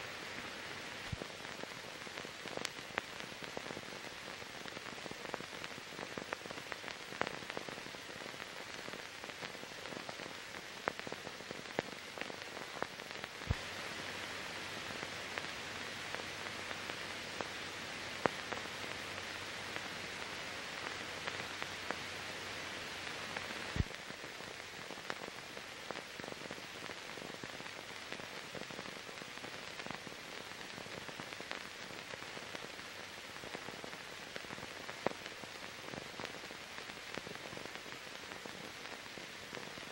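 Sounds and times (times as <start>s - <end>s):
film surface hiss: 0.0s - 39.9s.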